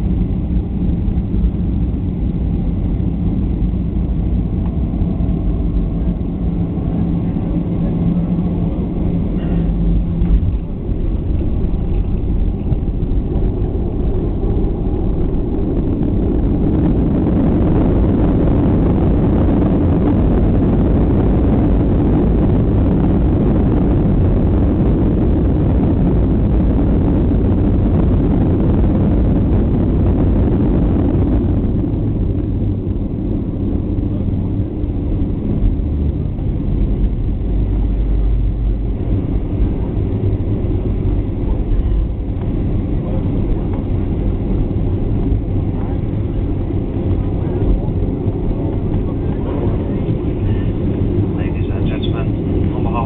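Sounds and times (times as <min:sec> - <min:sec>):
jet engines reverse thrust roar: 0:00.0 - 0:53.0
runway rumble: 0:00.0 - 0:53.0.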